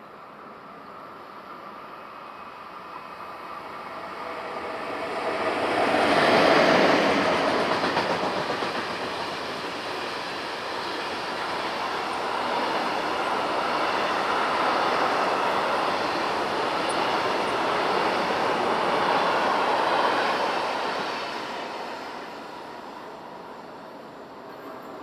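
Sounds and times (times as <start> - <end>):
train passing on rails: 0.0 - 25.0.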